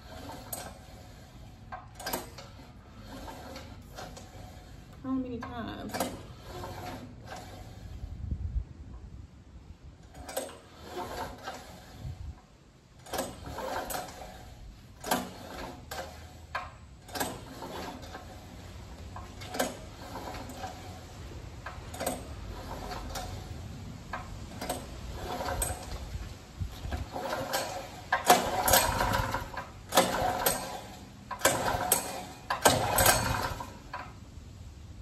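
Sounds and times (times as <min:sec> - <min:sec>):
generator recoil starter rattling: 0:00.0 - 0:08.1, 0:09.9 - 0:34.3.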